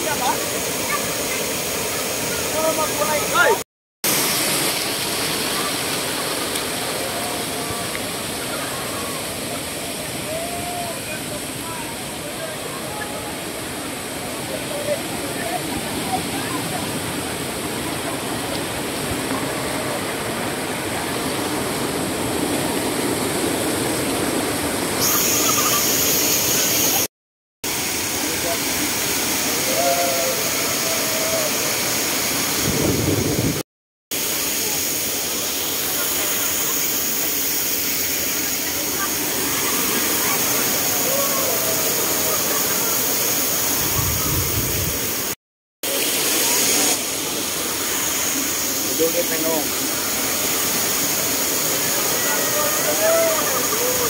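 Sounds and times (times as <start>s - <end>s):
waterfall rushing: 0.0s - 27.1s, 27.7s - 54.0s.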